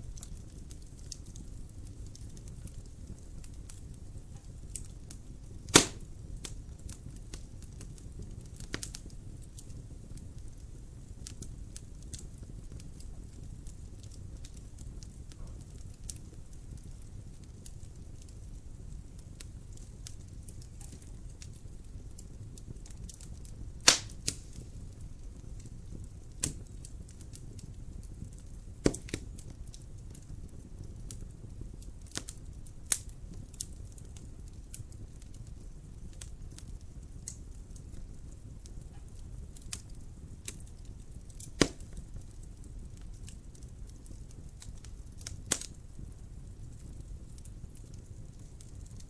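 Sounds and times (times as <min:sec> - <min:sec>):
fire pops: 0:00.0 - 0:49.0
wood fire crackling: 0:00.0 - 0:49.0.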